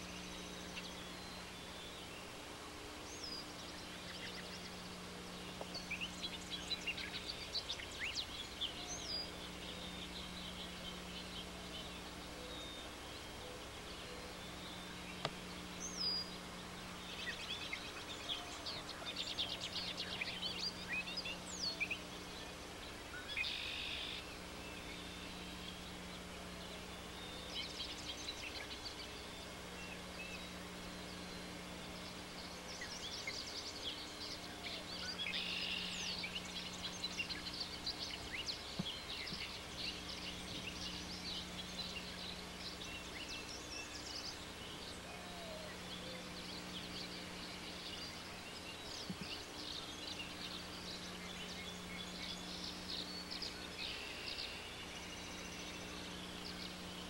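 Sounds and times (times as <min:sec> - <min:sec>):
faint low hum: 0:00.0 - 0:57.0
small birds chirping and trilling: 0:00.0 - 0:57.0.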